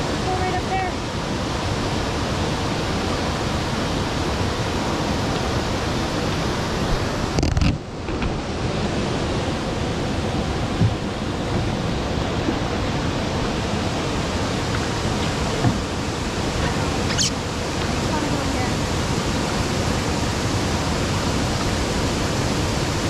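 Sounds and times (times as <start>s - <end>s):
waterfall rushing over rocks: 0.0s - 23.0s.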